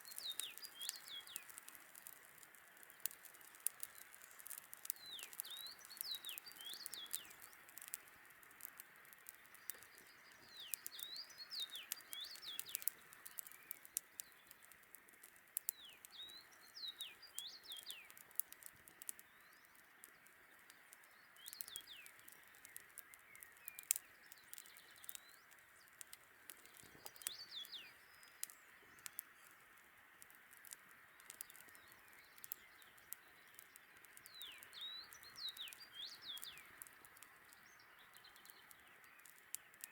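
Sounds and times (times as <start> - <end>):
campfire crackling: 0.0 - 39.9
songbird singing: 0.0 - 39.9.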